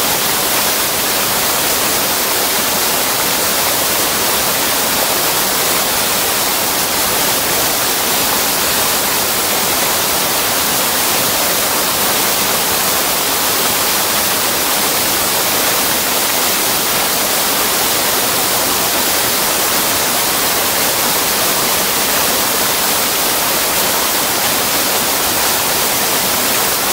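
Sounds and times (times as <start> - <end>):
water rushing over weir: 0.0 - 26.9.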